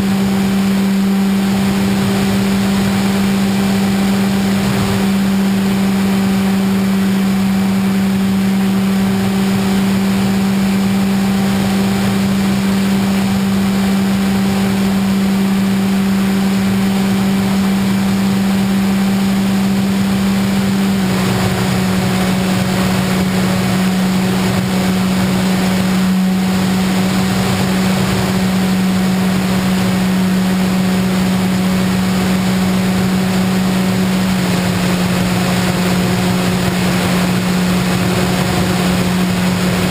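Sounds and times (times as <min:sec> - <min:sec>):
model airplane motor humming: 0:00.0 - 0:39.9
wind noise: 0:00.0 - 0:39.9.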